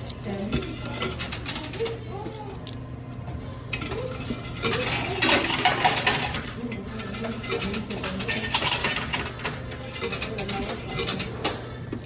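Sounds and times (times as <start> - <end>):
low machine hum: 0.0 - 12.0
coins clattering metallic clinks: 0.1 - 11.6.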